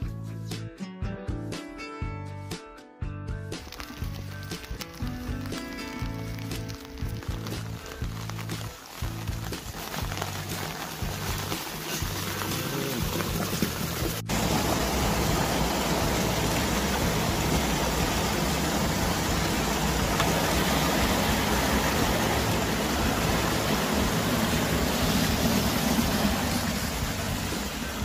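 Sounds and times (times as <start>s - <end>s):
water rushing down a ditch: 3.6s - 28.0s.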